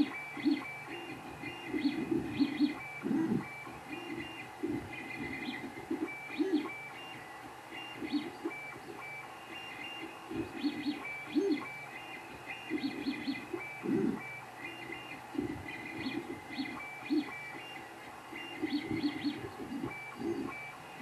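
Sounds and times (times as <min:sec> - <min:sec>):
stepper motors pitched notes: 0:00.0 - 0:21.0.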